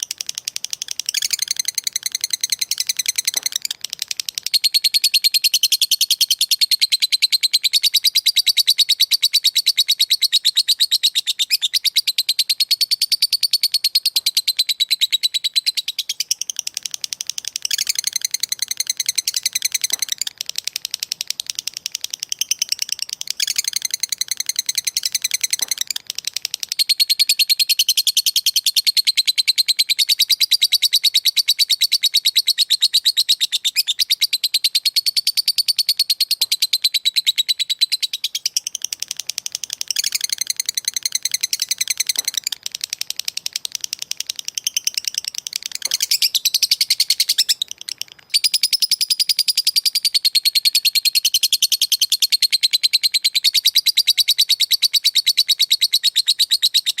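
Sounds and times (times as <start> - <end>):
bird fast high chattering: 0.0 - 57.0.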